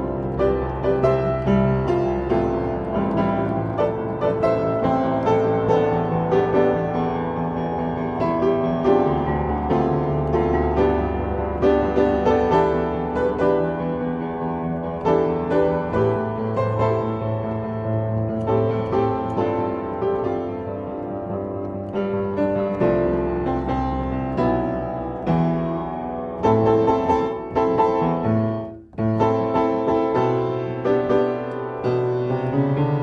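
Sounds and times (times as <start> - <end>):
solo piano pop melody: 0.0 - 33.0.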